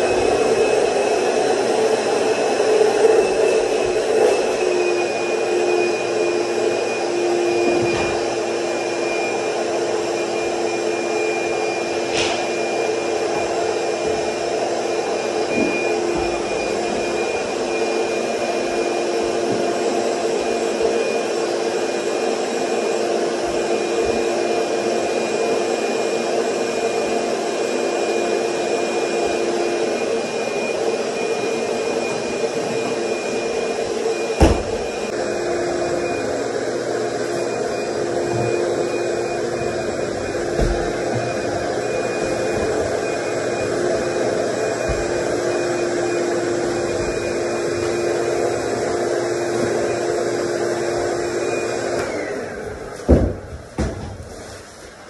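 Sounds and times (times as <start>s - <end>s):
shop vacuum running: 0.0s - 55.0s.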